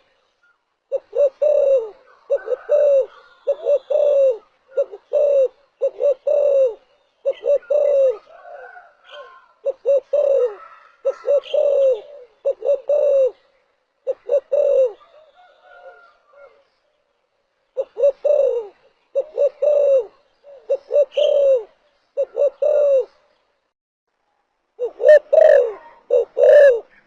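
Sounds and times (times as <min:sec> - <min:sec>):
dove cooing: 0:00.9 - 0:16.7, 0:17.8 - 0:23.3, 0:24.8 - 0:27.0.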